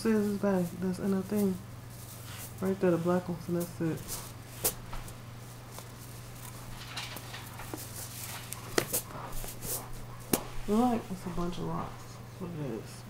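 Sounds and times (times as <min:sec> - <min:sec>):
soft rustles: 0:00.0 - 0:12.2
steady low hum: 0:00.0 - 0:13.0.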